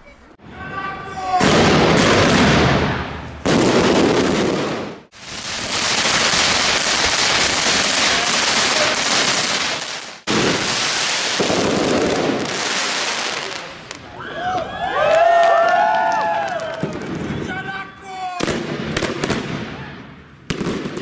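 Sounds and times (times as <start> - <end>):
fireworks crackling: 0.1 - 14.1, 16.2 - 21.0.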